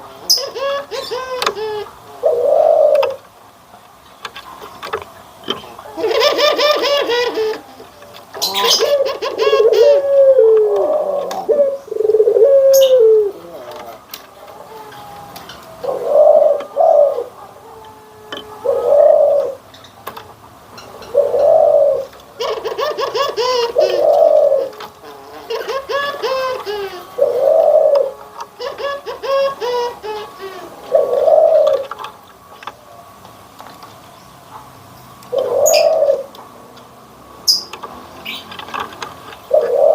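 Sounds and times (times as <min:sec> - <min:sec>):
doves cooing: 0:00.0 - 0:03.7, 0:04.4 - 0:33.2, 0:34.4 - 0:36.8, 0:37.4 - 0:39.9.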